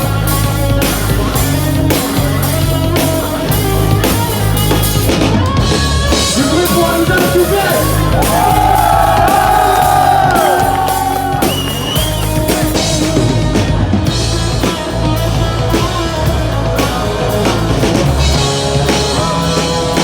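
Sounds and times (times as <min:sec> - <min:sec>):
hard rock band playing: 0:00.0 - 0:20.0.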